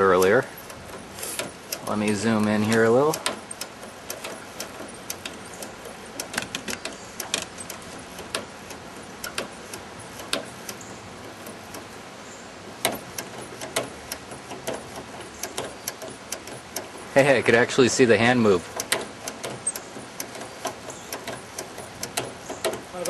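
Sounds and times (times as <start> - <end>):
hand pump clicking and knocking: 0.0 - 23.0.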